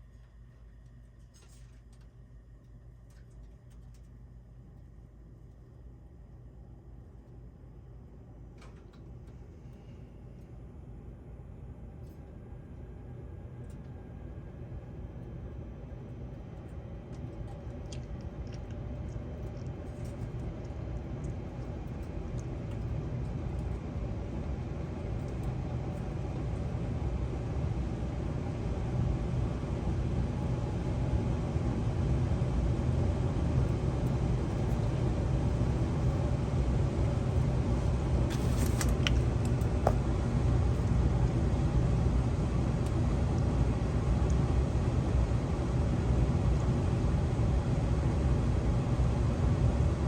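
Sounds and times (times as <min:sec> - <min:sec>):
gas furnace rumbling: 0:00.0 - 0:50.0.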